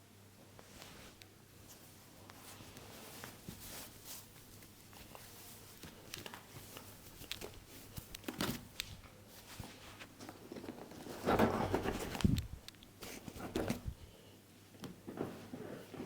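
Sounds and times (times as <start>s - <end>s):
hands rubbing hair and skin: 0.6s - 14.0s.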